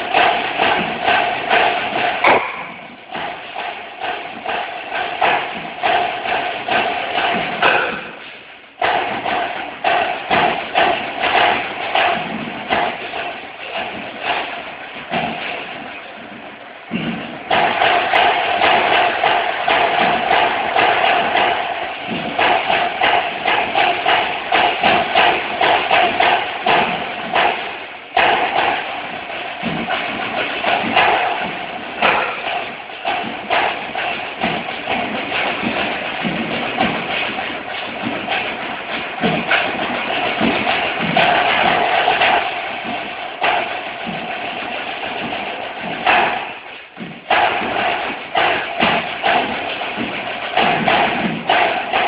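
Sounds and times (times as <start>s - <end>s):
snare drums playing: 0.0s - 52.0s.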